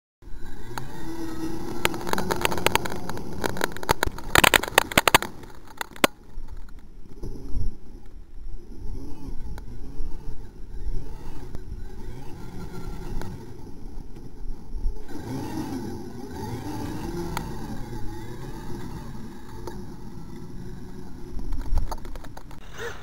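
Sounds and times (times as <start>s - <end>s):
rc truck motor: 0.2s - 23.0s
gravel pelting camera: 0.3s - 23.0s.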